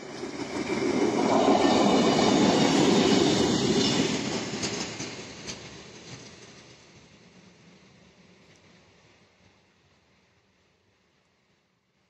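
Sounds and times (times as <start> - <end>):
railcar passing close by: 0.0 - 12.0.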